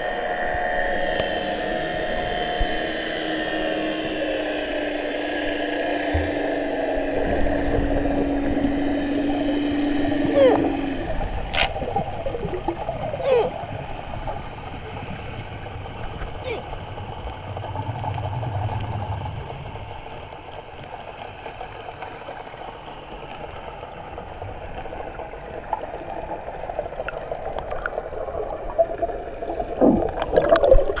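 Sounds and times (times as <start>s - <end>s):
muffled underwater wash: 0.0s - 31.0s
bubbling: 6.1s - 31.0s.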